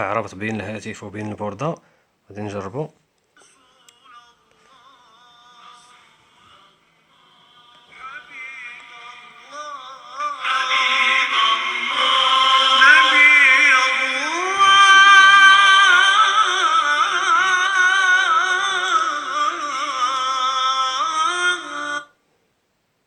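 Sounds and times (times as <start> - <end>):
song from small speaker: 3.4 - 22.2.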